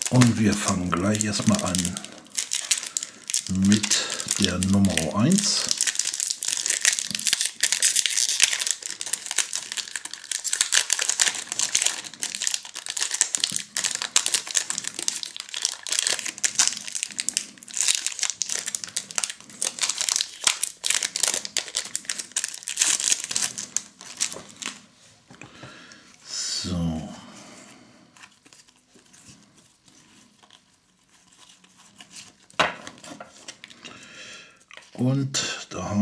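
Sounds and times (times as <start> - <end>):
foil wrapper crinkling: 0.0 - 24.8, 28.2 - 33.9
wrapper tearing: 0.0 - 24.8, 28.2 - 33.8.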